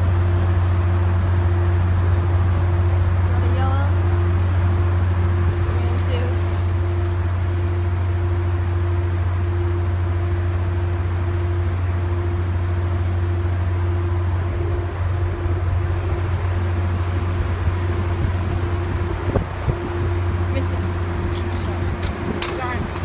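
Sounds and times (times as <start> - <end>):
idling train hum: 0.0 - 23.0.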